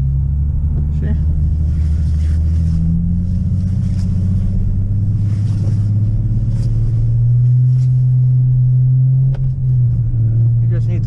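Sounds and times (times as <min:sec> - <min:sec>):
car engine drone from cabin: 0:00.0 - 0:11.0.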